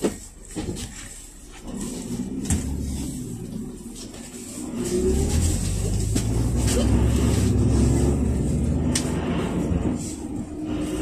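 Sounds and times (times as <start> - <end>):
low road rumble: 0.0 - 11.0
minibus engine running: 0.0 - 11.0.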